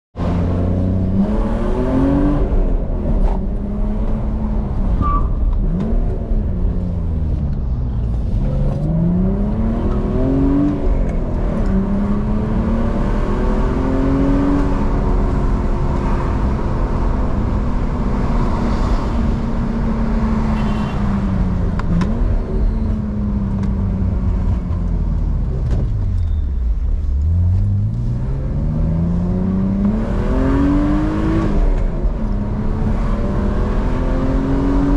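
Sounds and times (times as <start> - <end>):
car engine revving: 0.2 - 26.0, 26.8 - 34.9.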